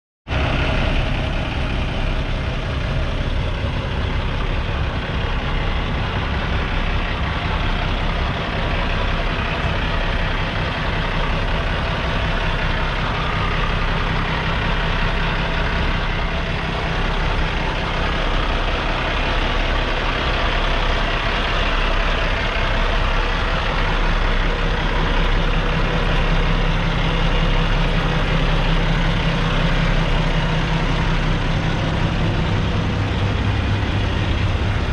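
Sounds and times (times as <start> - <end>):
diesel truck engine idling: 0.3 - 34.9.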